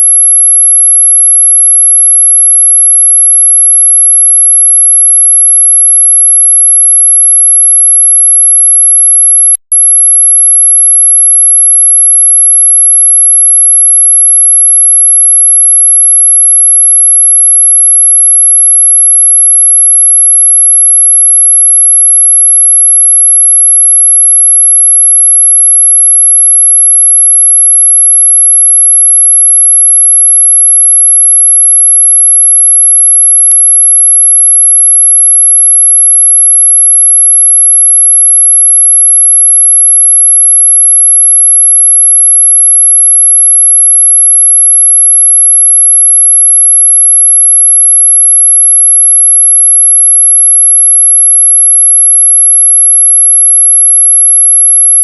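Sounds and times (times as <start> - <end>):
high-pitched electronic sine tone: 0.0 - 55.0.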